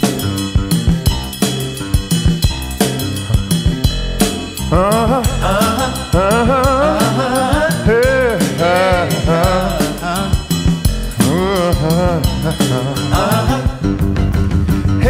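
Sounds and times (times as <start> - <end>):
drum kit steady beat: 0.0 - 15.0.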